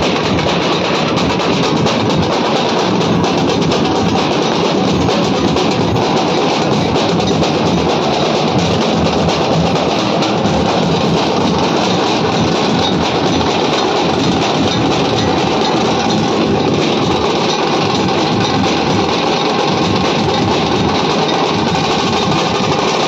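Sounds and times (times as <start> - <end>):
barrel drums beaten with sticks: 0.0 - 23.0.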